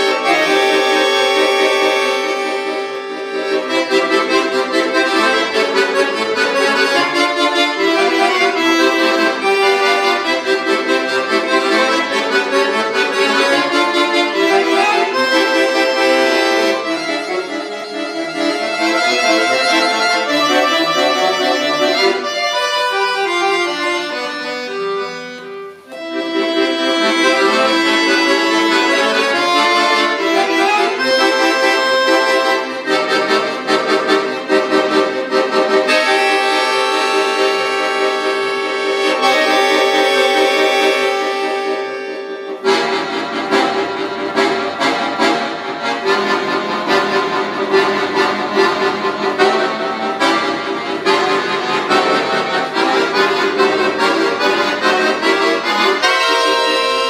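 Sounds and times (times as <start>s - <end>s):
accordion playing: 0.0s - 57.0s.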